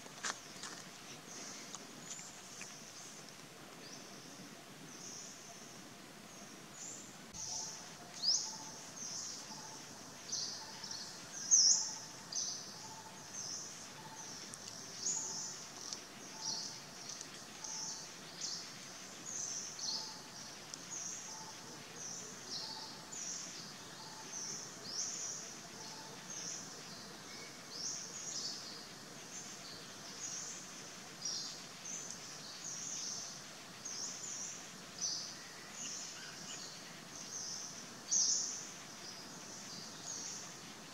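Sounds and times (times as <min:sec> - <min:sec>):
small birds chirping: 0:00.2 - 0:40.9.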